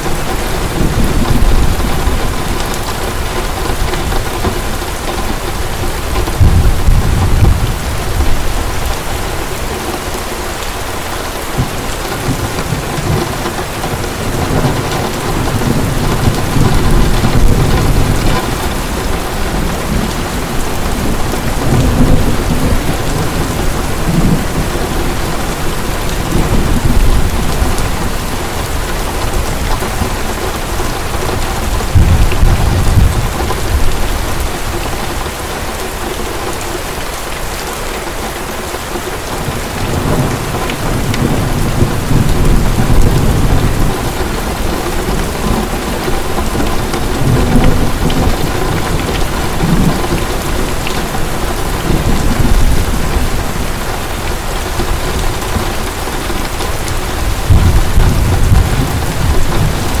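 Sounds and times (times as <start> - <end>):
thunder rumbling: 0.0 - 35.4, 39.4 - 60.0
heavy rain falling: 0.0 - 60.0.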